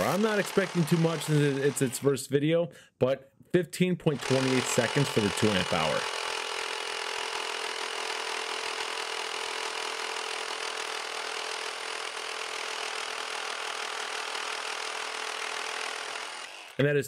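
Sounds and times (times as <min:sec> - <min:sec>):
reciprocating saw cutting wood: 0:00.0 - 0:02.2, 0:04.1 - 0:16.8.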